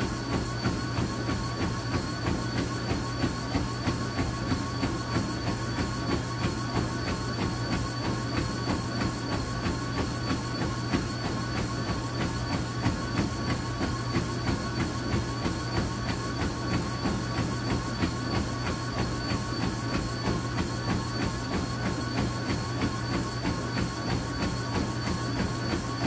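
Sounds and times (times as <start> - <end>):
footfalls on treadmill belt: 0.0 - 26.0
treadmill motor hum and whine: 0.0 - 26.0.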